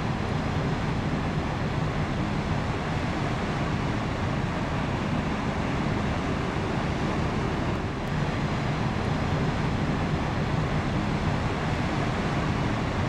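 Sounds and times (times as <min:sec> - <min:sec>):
distant engines droning: 0:00.0 - 0:13.0.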